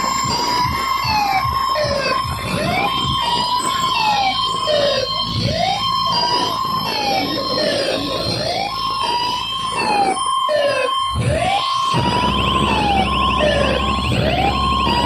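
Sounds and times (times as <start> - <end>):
siren-like synth tone: 0.0 - 15.0
steady high synth note: 0.0 - 15.0
thumping bass beat: 0.0 - 15.0.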